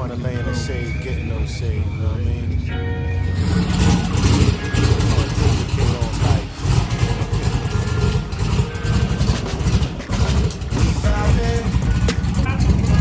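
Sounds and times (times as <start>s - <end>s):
faint voices: 0.0s - 13.0s
vehicle engine running: 0.0s - 13.0s.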